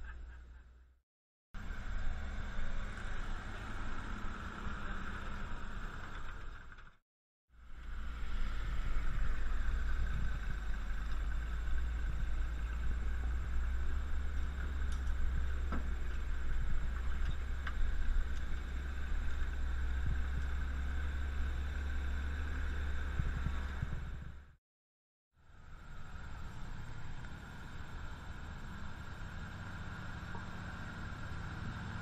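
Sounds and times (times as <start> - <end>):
truck engine drone: 0.0 - 1.0, 1.6 - 7.0, 7.6 - 24.5, 25.4 - 32.0.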